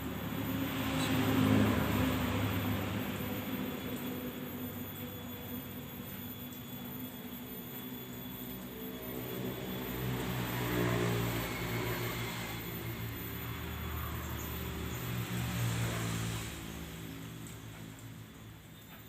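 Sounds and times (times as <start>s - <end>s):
vehicle engine droning: 0.0s - 6.7s, 8.0s - 19.0s.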